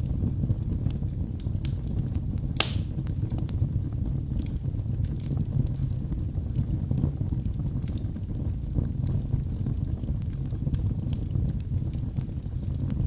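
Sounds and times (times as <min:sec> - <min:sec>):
flames rumbling: 0:00.0 - 0:13.0
logs crackling and popping: 0:00.0 - 0:13.0.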